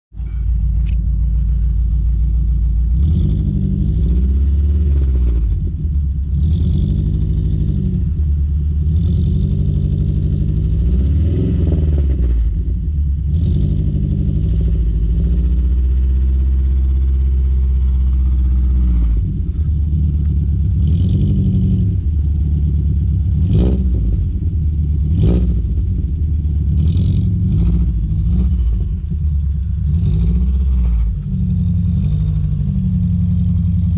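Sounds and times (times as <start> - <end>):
car engine revving: 0.2 - 33.9
exhaust cracks: 0.2 - 33.9.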